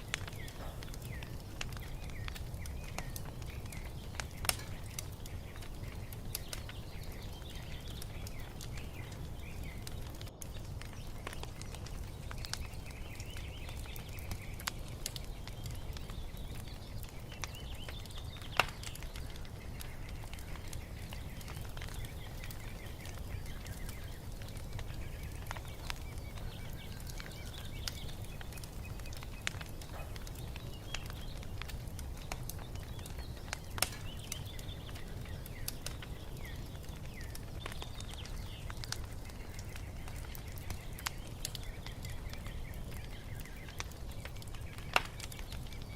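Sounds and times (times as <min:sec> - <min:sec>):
sharp snaps of fire: 0:00.0 - 0:45.9
small birds chirping: 0:00.0 - 0:45.9
wood fire crackling: 0:00.0 - 0:45.9.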